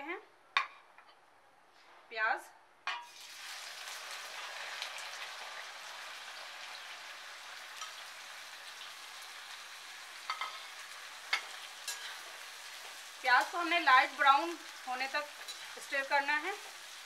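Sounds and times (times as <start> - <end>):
onions sizzling in oil: 3.0 - 17.0.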